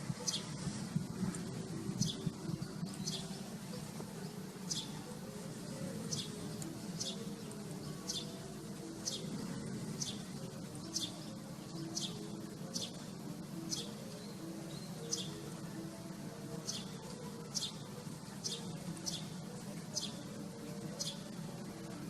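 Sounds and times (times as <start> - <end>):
bird chirping: 0.1 - 0.6, 2.0 - 22.0.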